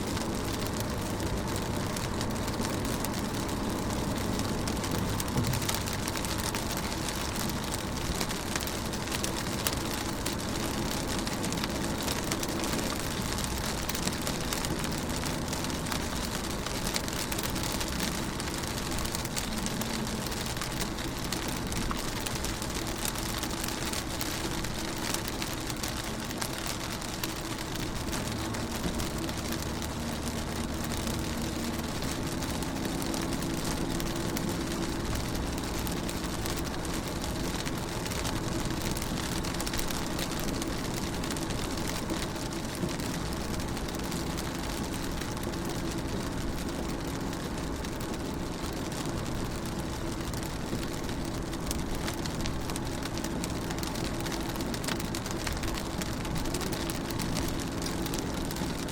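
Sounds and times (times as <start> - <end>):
rain on car windows: 0.0 - 58.9.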